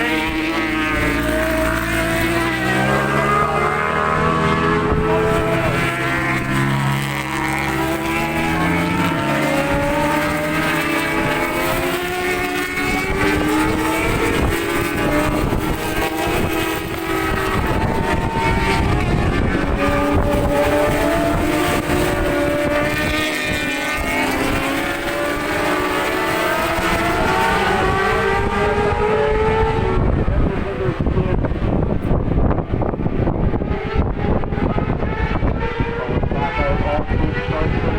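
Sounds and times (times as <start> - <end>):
racing motorcycles at speed: 0.0 - 37.9.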